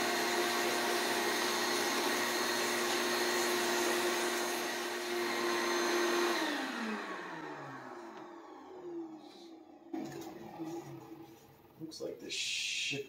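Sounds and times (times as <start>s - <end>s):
shop vacuum motor whine: 0.0s - 11.4s.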